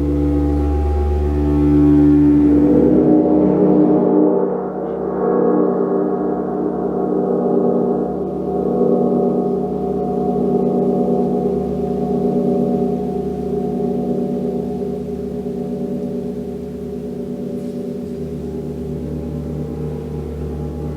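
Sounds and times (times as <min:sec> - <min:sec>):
large gong resonating: 0:00.0 - 0:20.9.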